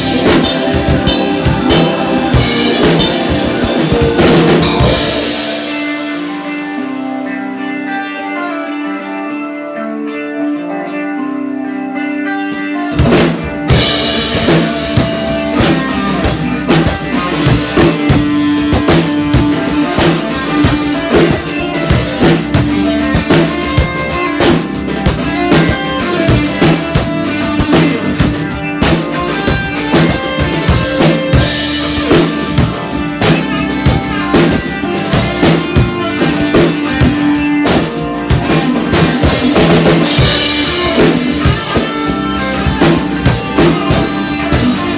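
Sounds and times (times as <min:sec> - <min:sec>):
drum kit beat: 0:00.0 - 0:07.1, 0:12.5 - 0:44.9
guitar and bass: 0:00.0 - 0:44.9.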